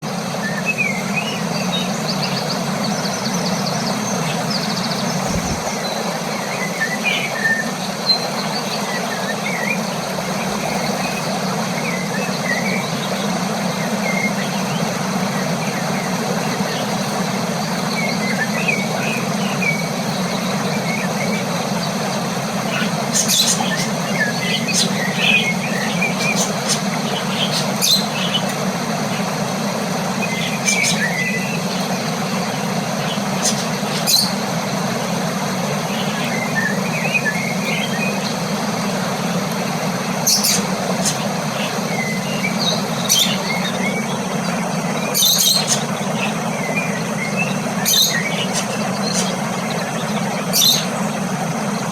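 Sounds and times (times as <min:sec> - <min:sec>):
steady low hum: 0:00.0 - 0:51.9
cockatiels chirping: 0:00.5 - 0:38.9, 0:40.2 - 0:51.2.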